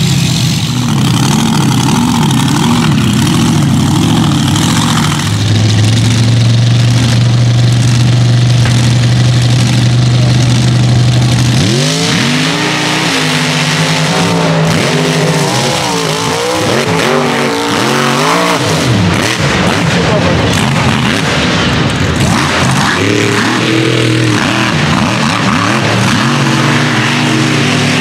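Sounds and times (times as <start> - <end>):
truck engines revving: 0.0 - 28.0.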